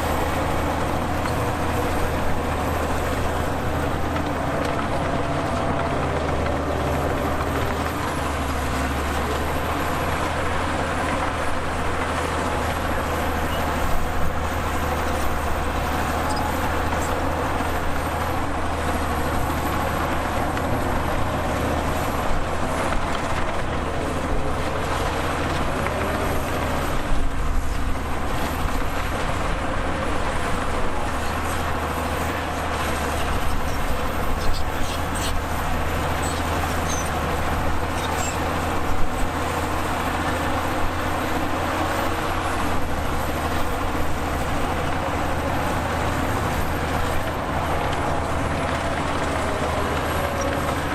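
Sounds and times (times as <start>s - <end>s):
diesel machinery engine rumble: 0.0s - 50.9s.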